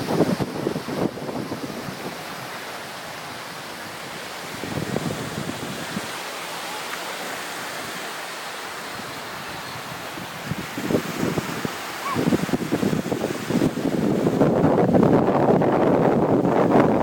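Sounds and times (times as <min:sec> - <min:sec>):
wind rumbling on microphone: 0:00.0 - 0:06.3, 0:08.8 - 0:17.0
gentle surf: 0:00.0 - 0:17.0.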